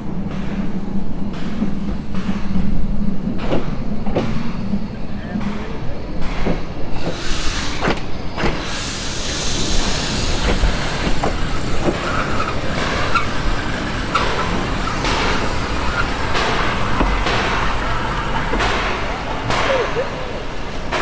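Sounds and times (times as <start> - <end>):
railcar running noise: 0.0 - 21.0
wheels clanking on rail joints: 0.0 - 21.0.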